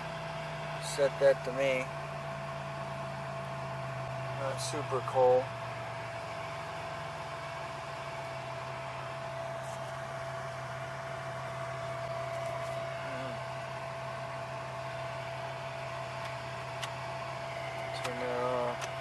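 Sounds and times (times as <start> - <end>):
air-conditioning blower fan hum: 0.0 - 19.0
car engine idling: 0.0 - 19.0.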